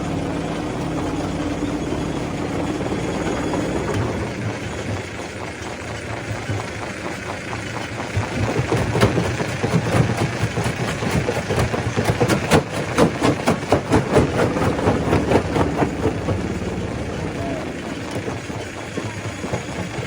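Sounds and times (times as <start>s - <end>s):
stone crusher drone: 0.0s - 6.9s, 8.3s - 20.0s.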